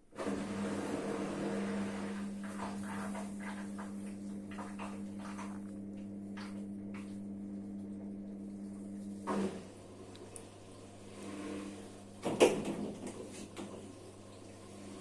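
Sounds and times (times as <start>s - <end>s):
washing machine hum: 0.0s - 15.0s.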